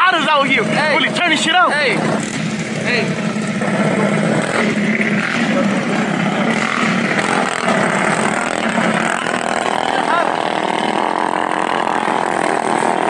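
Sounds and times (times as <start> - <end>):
mini bike engines running: 0.0 - 13.0.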